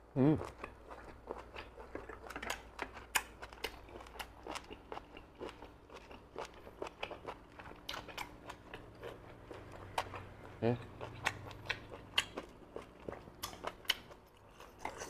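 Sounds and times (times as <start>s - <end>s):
chewing with moist crunches: 0.2s - 15.0s.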